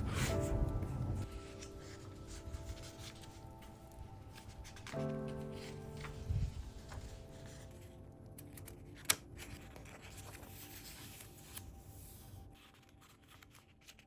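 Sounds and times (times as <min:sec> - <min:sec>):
paper rustling: 0:00.0 - 0:14.0.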